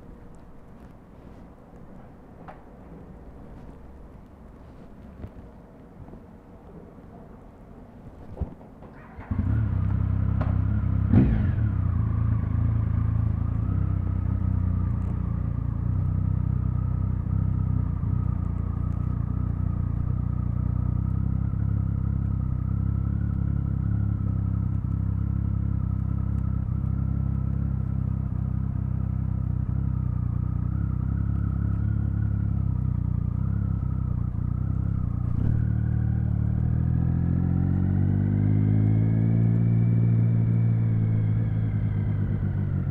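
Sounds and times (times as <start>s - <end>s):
motorcycle engine idling and revving: 8.3s - 42.9s.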